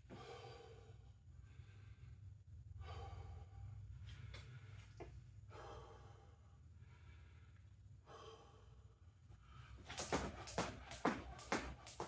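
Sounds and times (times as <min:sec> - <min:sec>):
man breathing hard: 0:00.0 - 0:12.0.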